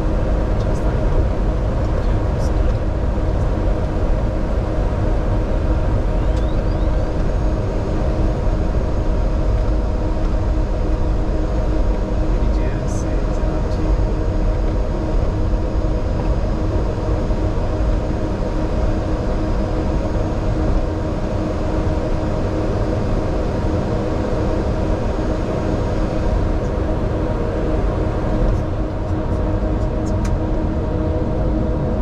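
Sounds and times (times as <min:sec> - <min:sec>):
idling jet engines rumble: 0:00.0 - 0:32.0
steady hums: 0:00.0 - 0:32.0.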